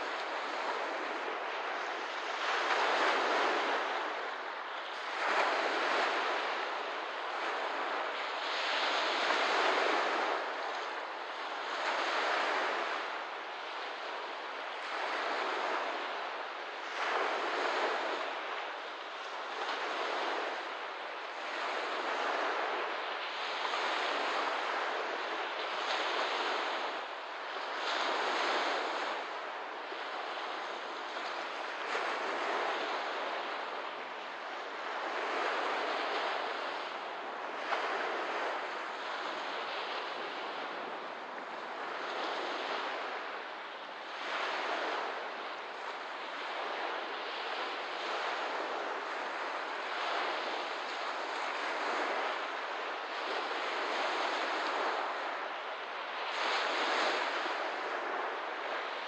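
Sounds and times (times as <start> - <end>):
small waves lapping on shore: 0.0 - 59.0.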